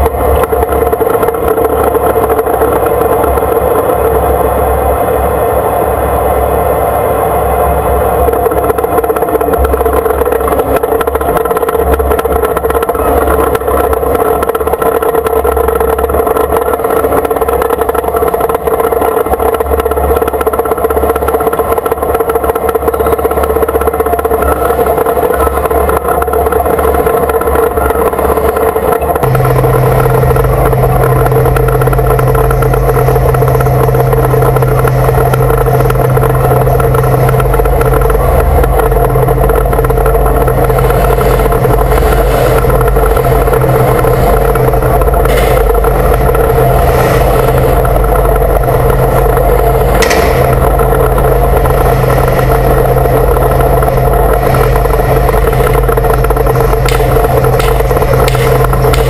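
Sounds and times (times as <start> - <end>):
tank engine droning: 0.0 - 59.0.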